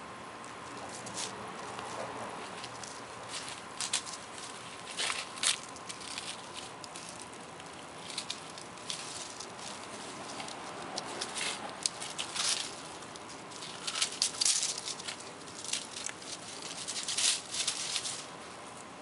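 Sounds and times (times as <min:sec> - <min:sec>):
dry leaves rustling and crackling: 0:00.6 - 0:18.9.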